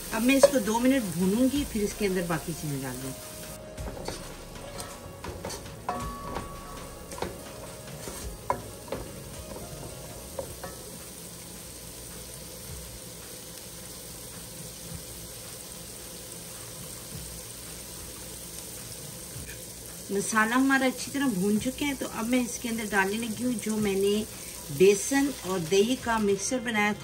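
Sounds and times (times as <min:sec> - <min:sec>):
masala sizzling while stirred: 0:00.0 - 0:27.0.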